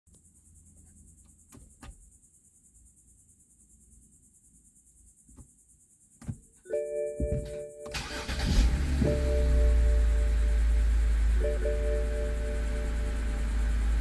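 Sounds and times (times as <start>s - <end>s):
high-pitched hiss: 0.2s - 14.0s.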